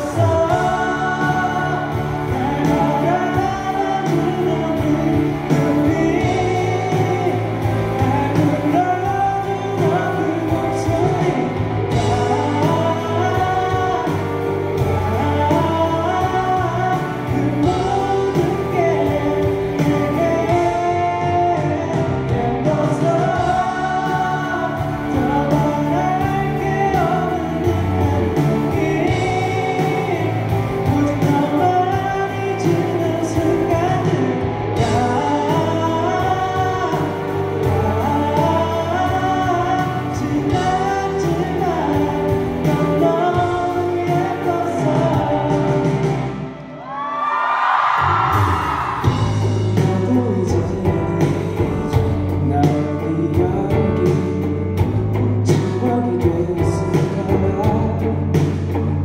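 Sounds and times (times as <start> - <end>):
man singing into a microphone: 0.0 - 47.3, 48.0 - 59.0
instrumental accompaniment: 0.0 - 59.0.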